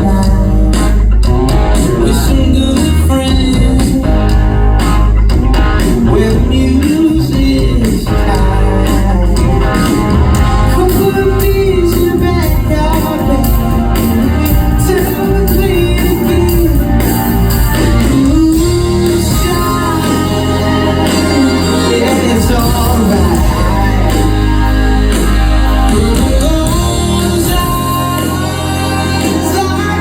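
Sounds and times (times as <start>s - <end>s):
lead vocal singing: 0.0s - 4.5s, 5.8s - 30.0s
live band with bass and drums: 0.0s - 30.0s.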